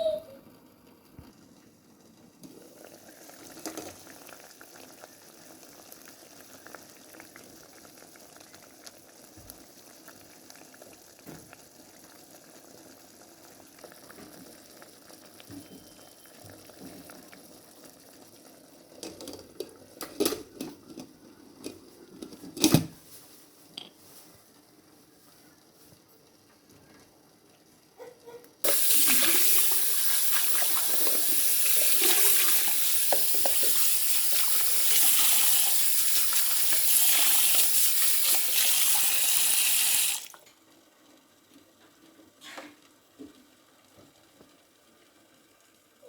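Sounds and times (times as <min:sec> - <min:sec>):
liquid bubbling in a pot: 0:00.5 - 0:22.6, 0:24.4 - 0:39.4.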